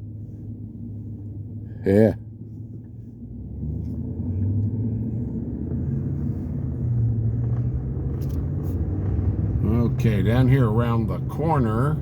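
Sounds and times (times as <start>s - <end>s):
car engine accelerating: 0.0s - 12.0s
road noise: 0.0s - 12.0s.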